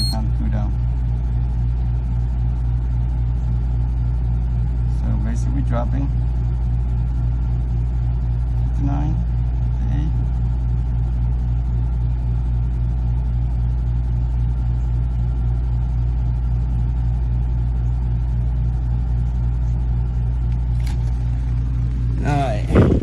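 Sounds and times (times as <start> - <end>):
generator and air conditioner drone: 0.0 - 23.0.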